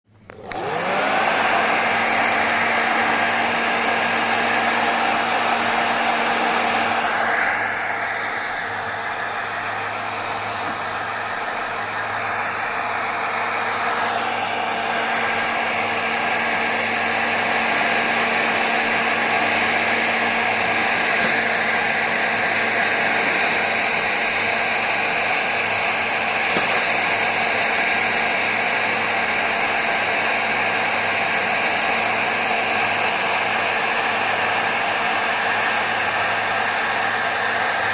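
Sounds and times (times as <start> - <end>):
hair dryer blowing: 0.1 - 37.9.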